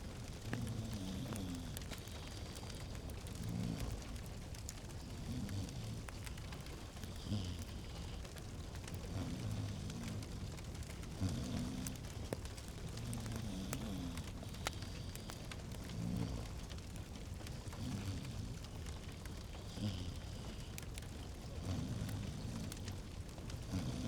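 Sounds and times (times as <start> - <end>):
log fire crackling and popping: 0.0 - 24.0.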